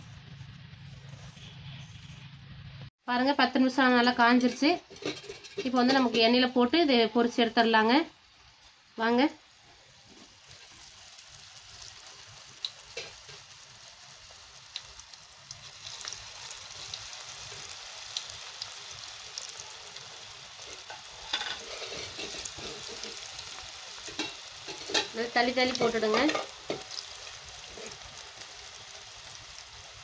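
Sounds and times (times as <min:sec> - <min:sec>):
food deep-frying in hot oil: 0:03.1 - 0:30.0.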